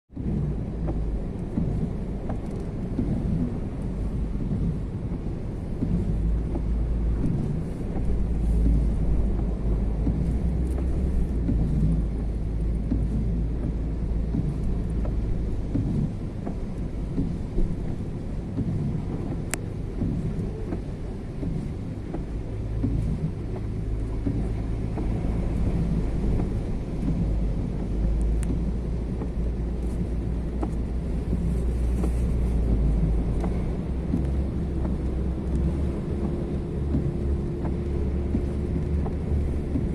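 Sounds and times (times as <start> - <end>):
car engine rumble: 0.1 - 39.9
floodwater washing against car: 0.1 - 39.9.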